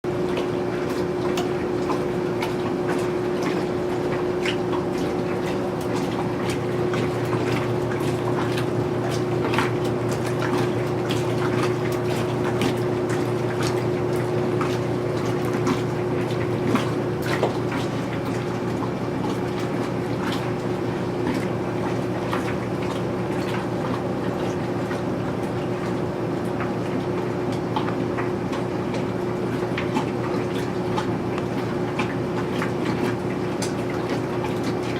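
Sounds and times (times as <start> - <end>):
water sloshing in a tub: 0.0 - 34.9.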